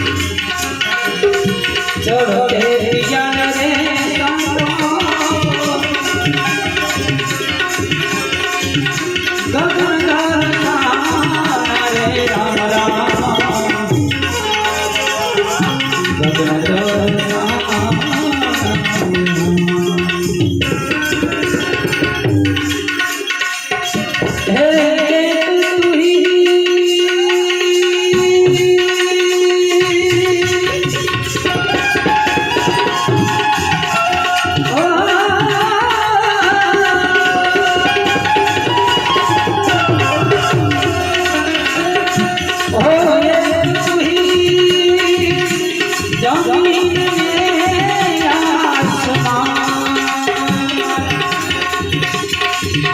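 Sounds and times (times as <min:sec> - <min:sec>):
harmonium melody: 0:00.0 - 0:52.9
tabla rhythm: 0:00.0 - 0:52.9.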